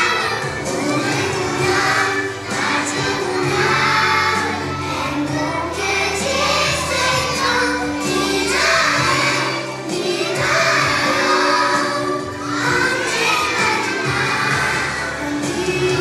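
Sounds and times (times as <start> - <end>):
backing track music: 0.0 - 16.0
children singing: 0.0 - 16.0.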